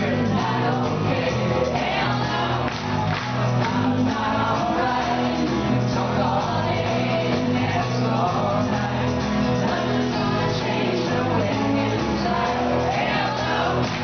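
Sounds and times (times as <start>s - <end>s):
acoustic guitar: 0.0s - 14.0s
steady bass line: 0.0s - 14.0s.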